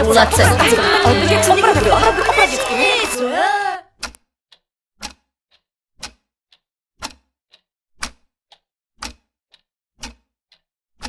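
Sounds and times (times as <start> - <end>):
clock ticking: 0.0 - 3.2, 4.0 - 10.6.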